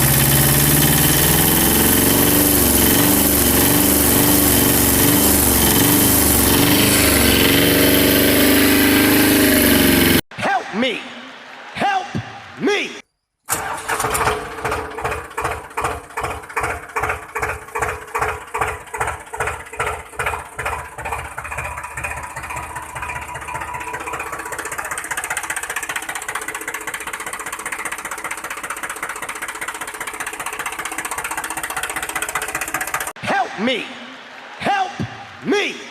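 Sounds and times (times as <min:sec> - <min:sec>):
mini tractor motor chugging: 0:00.0 - 0:10.2, 0:13.5 - 0:33.2.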